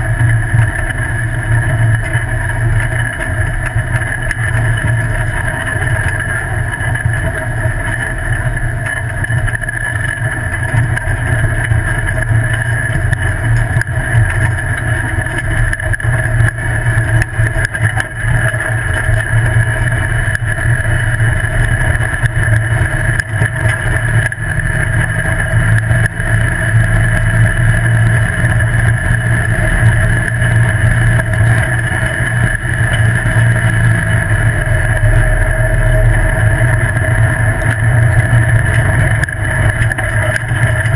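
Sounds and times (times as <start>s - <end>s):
buggy engine running: 0.0s - 40.9s
steady whine: 0.0s - 40.9s.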